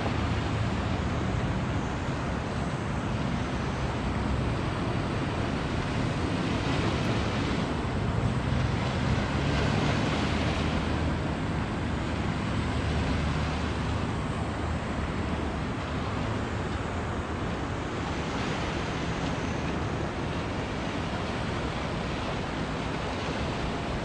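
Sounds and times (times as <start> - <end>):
ship diesel engine drone: 0.0 - 24.0
water rushing along hull: 0.0 - 24.0.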